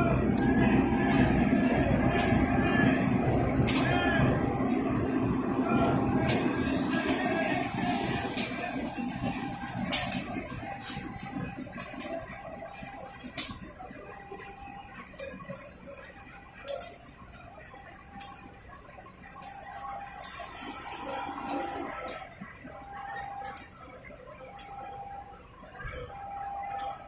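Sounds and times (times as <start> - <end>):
trains rumbling: 0.0 - 27.0.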